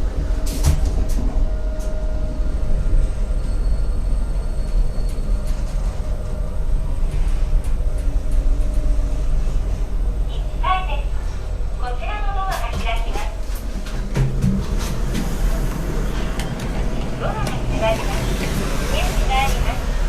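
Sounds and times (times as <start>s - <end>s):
elevator rumble: 0.0s - 20.0s.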